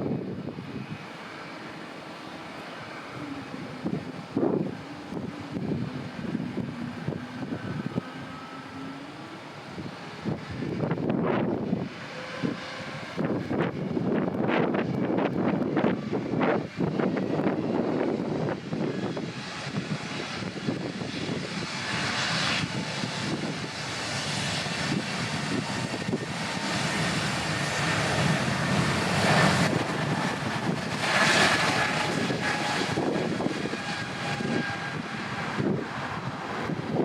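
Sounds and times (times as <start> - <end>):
jet engines passing: 0.0 - 37.0.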